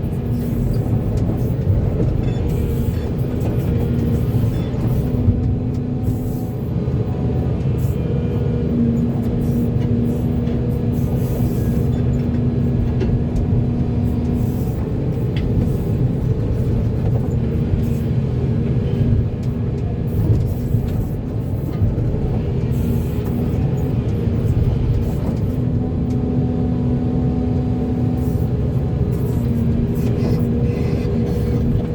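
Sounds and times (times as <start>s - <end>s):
excavator diesel engine droning: 0.0s - 31.9s.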